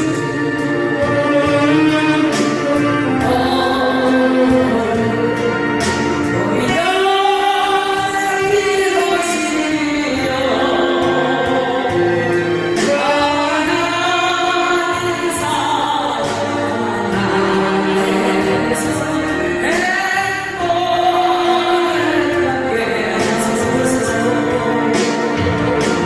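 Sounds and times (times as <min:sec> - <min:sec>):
choir singing a hymn: 0:00.0 - 0:26.0.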